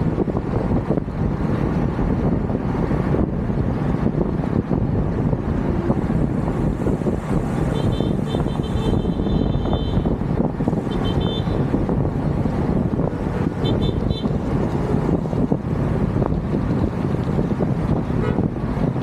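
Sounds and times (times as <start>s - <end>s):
road and traffic noise: 0.0s - 19.0s.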